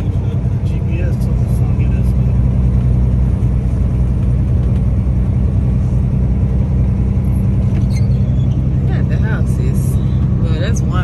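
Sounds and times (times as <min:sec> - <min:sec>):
diesel engine droning: 0:00.0 - 0:11.0
road noise: 0:00.0 - 0:11.0.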